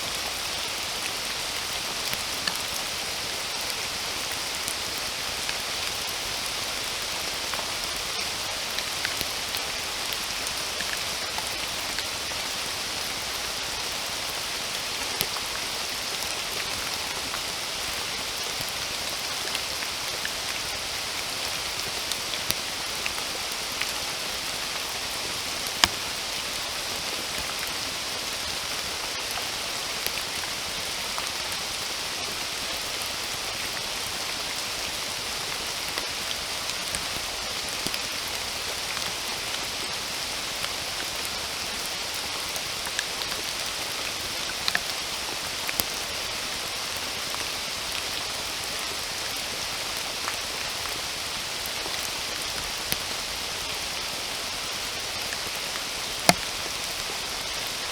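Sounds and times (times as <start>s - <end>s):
steady rain hiss: 0.0s - 57.9s
raindrops ticking and plopping: 0.1s - 57.8s.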